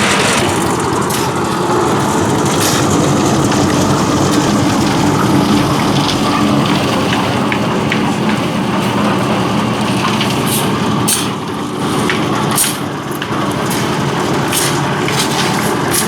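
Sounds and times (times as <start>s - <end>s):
concrete churning in drum: 0.0s - 16.0s
concrete mixer engine hum: 0.0s - 16.0s.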